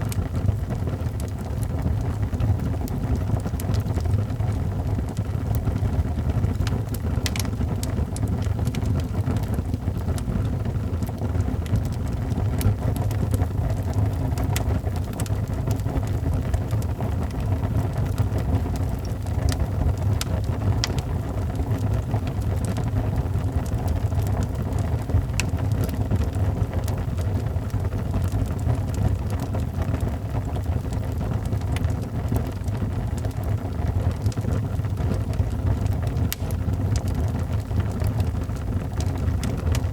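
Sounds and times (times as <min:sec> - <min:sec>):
burning logs crackling and popping: 0:00.0 - 0:39.9
fire flames roaring: 0:00.0 - 0:39.9.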